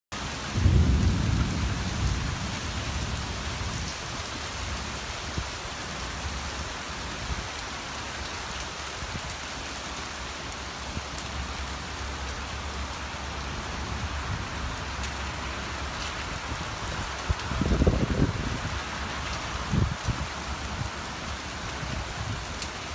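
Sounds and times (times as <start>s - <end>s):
heavy rain pouring: 0.1s - 22.9s.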